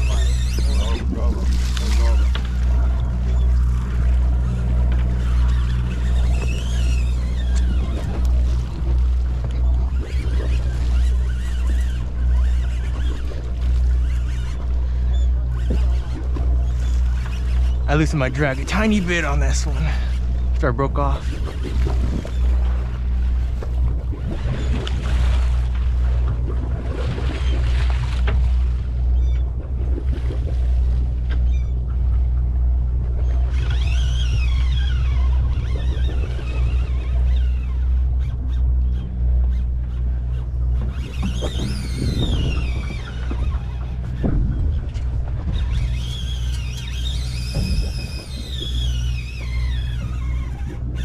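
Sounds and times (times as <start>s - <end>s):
boat engine humming: 0.0s - 51.0s
water washing along hull: 0.0s - 51.0s.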